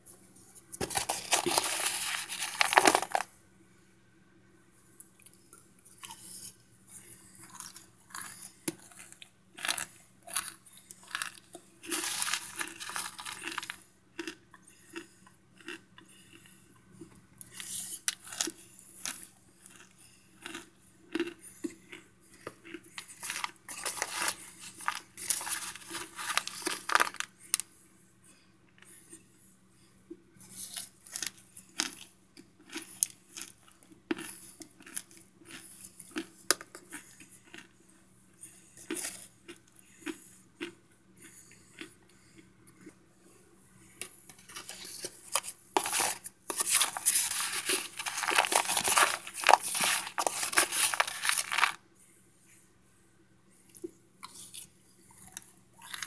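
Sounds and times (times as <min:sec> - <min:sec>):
crunchy food being chewed: 0:00.8 - 0:03.3, 0:05.0 - 0:27.7, 0:30.4 - 0:43.0, 0:43.9 - 0:51.8, 0:53.7 - 0:56.0.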